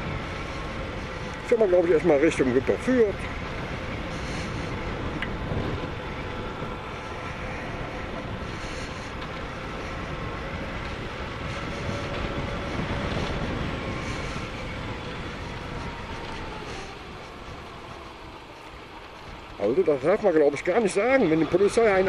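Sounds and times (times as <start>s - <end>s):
wind noise on microphone: 0.0s - 19.9s.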